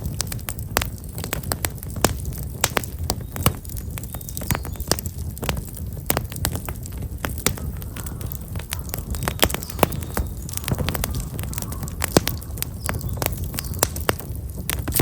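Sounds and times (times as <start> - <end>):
bonfire crackling and popping: 0.0 - 15.0
low rumble of flames: 0.0 - 15.0.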